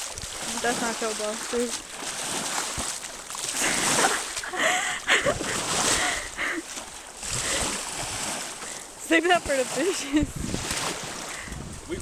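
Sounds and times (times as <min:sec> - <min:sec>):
water splashing from wading: 0:00.0 - 0:12.0.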